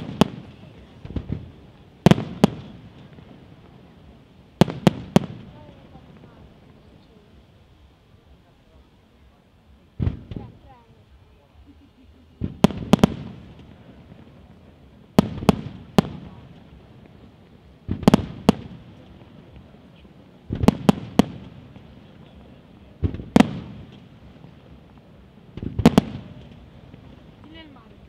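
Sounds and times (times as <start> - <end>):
fireworks bursting with bangs: 0.0 - 28.0.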